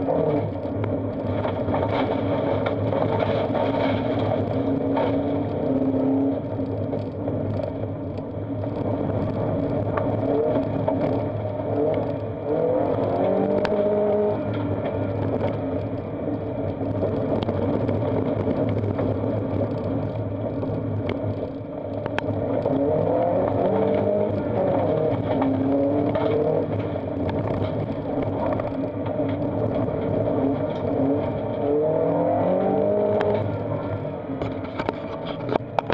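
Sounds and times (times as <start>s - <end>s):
car engine revving: 0.0s - 35.9s
gravel clattering against car body: 0.0s - 35.9s.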